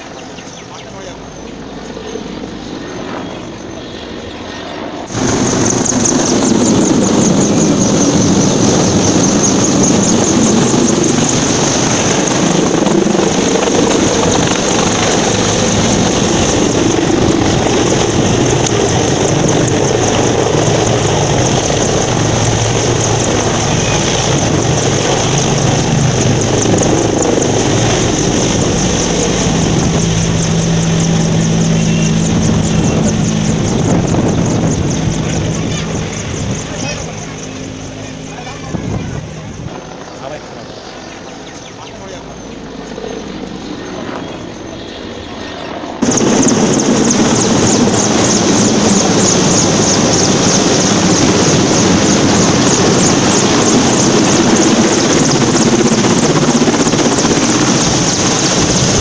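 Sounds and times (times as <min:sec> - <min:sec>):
helicopter rotor noise: 0:00.0 - 0:59.0
high turbine whine: 0:00.0 - 0:59.0.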